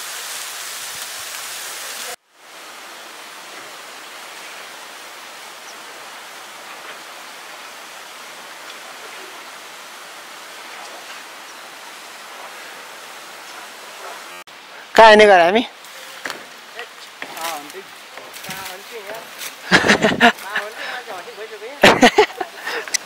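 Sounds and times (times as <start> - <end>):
waterfall splashing into pool: 0.0 - 14.5, 15.2 - 23.0
even rushing hiss: 0.0 - 23.0.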